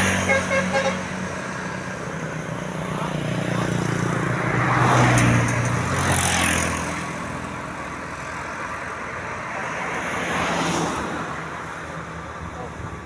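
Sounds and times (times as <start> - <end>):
approaching vehicle road noise: 0.0 - 13.0
passing vehicle engine: 0.0 - 13.0.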